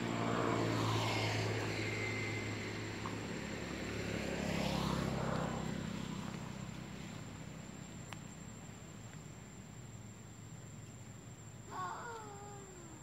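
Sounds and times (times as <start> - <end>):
passing vehicle engine hum: 0.0 - 10.5.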